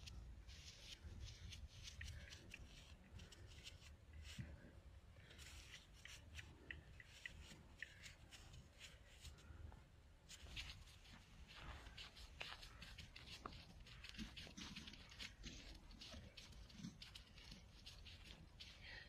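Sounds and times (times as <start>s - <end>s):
faint crackling and rustling: 0.0s - 19.0s.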